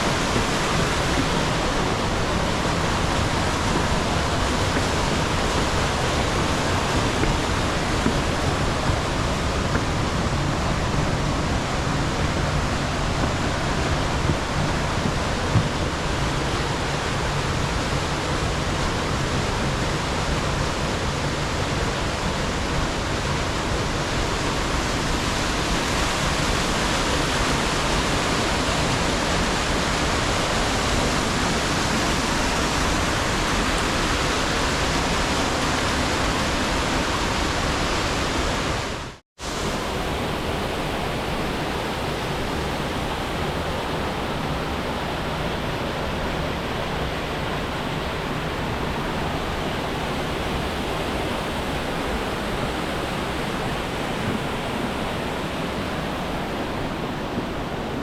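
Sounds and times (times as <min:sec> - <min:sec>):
stream rushing over waterfalls: 0:00.0 - 0:58.0.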